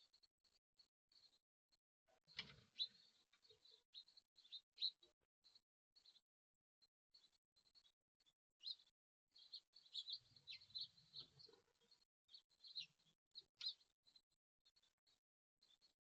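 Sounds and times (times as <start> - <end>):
small birds chirping: 0.0 - 1.4, 2.1 - 16.0.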